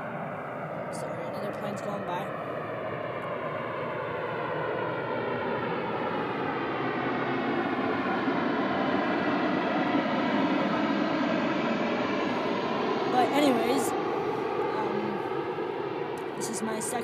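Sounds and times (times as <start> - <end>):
airplane engine drone: 0.0 - 17.0.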